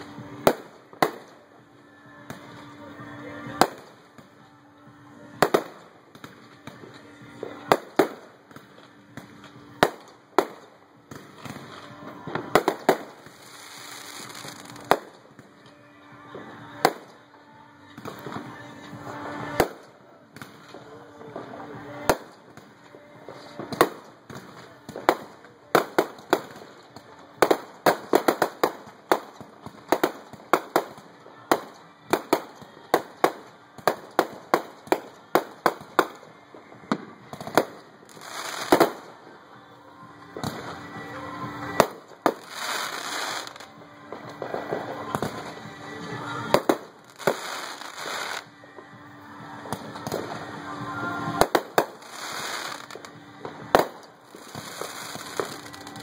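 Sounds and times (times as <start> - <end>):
crackling firework bursts: 0.0 - 4.4, 5.1 - 17.3, 17.9 - 39.4, 40.2 - 48.8, 49.4 - 56.0
fireworks bangs: 0.0 - 4.4, 5.2 - 17.3, 17.9 - 39.4, 40.2 - 48.6, 49.4 - 56.0.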